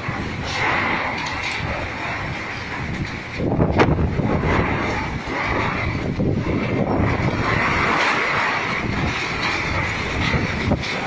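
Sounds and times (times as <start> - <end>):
strong storm wind: 0.0 - 11.0.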